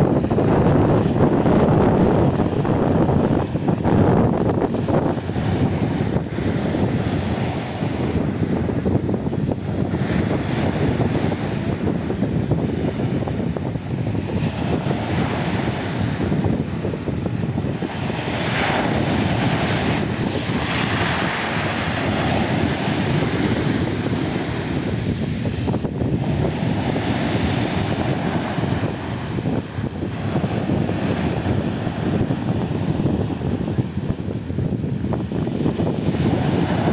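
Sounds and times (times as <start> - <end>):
waves breaking on pebble beach: 0.0 - 36.9
wind buffeting microphone: 0.0 - 36.9.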